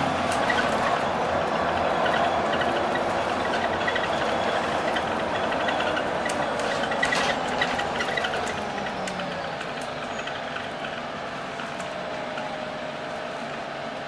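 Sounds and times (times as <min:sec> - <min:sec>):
bus drivetrain and road noise: 0:00.0 - 0:14.0.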